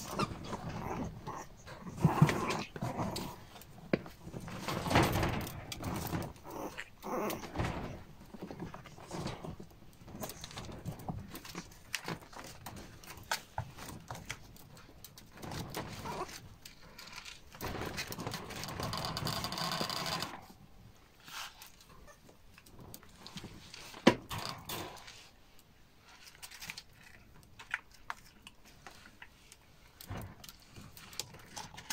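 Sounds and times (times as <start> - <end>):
rustling: 0.0 - 31.9.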